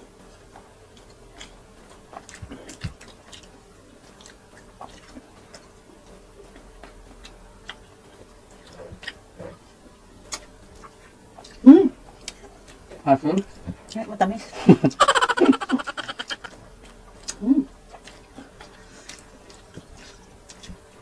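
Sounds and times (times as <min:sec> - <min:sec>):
chewing clicks and smacks: 0:00.4 - 0:09.2, 0:10.3 - 0:14.0, 0:16.2 - 0:20.8.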